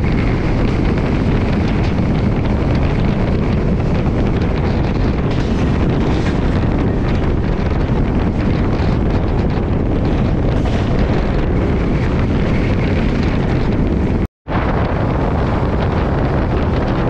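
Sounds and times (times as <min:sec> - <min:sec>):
train running: 0:00.0 - 0:17.0
wind on microphone: 0:00.0 - 0:17.0.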